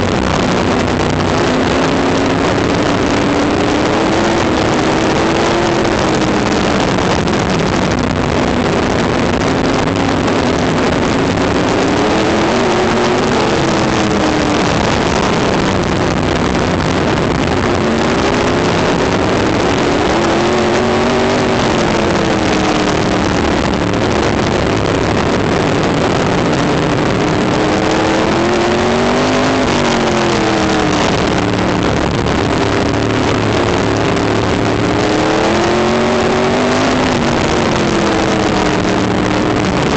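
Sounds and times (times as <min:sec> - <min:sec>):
race car engine revving: 0:00.0 - 0:39.9
rushing noise: 0:00.0 - 0:39.9.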